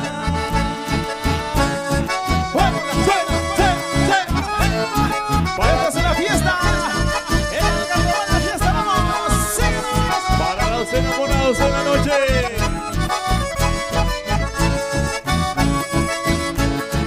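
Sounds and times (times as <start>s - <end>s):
button accordions: 0.0s - 17.0s
guitars: 0.0s - 17.0s
steady bass pulse: 0.0s - 17.0s.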